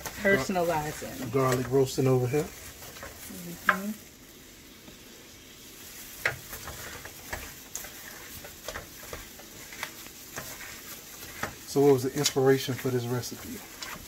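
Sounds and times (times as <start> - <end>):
wet squishes of mixing shrimp: 0.0 - 4.6, 5.7 - 14.0
garlic frying in a skillet: 0.0 - 14.0.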